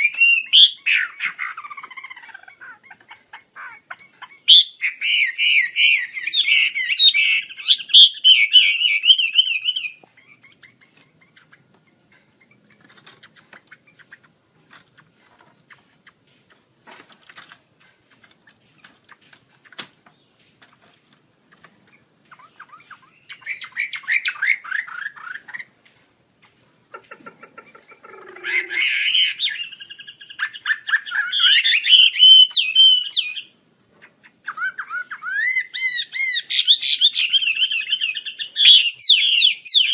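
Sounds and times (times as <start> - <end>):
bird singing warbling phrases: 0.0 - 16.6, 17.7 - 39.9.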